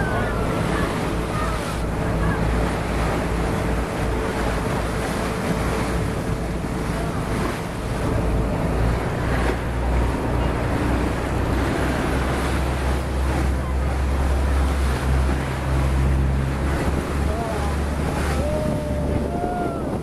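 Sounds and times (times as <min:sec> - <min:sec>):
boat engine hum: 0:00.0 - 0:20.0
water rushing along hull: 0:00.0 - 0:20.0
wind buffeting microphone: 0:00.0 - 0:20.0.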